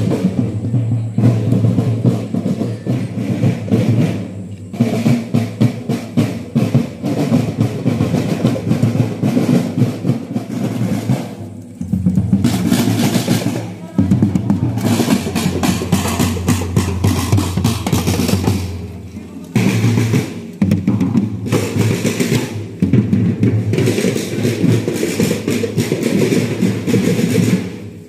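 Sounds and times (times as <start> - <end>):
marching drum band playing: 0.0 - 28.0.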